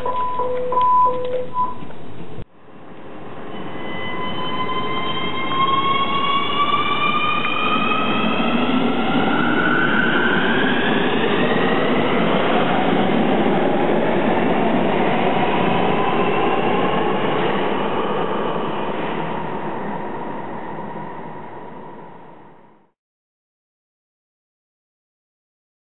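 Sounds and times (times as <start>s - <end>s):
rising electric train whine: 0.0s - 22.9s.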